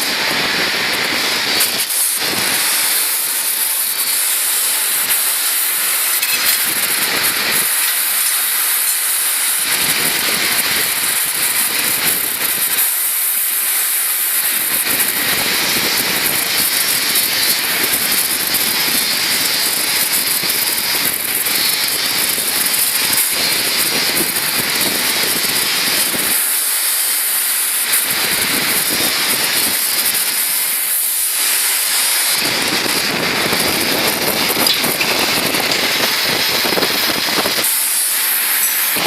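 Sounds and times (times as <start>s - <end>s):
cutting torch hissing: 0.0s - 39.0s.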